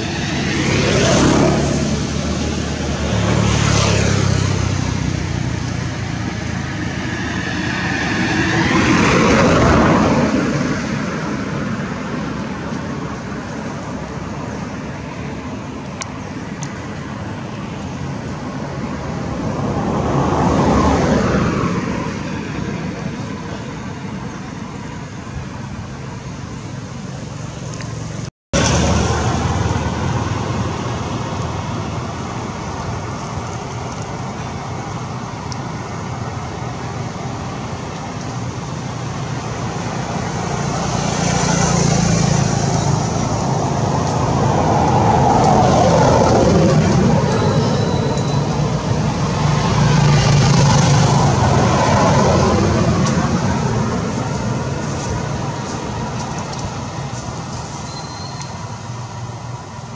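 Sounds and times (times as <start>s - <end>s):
road traffic: 0.0s - 59.9s
vehicles passing by: 0.0s - 59.9s.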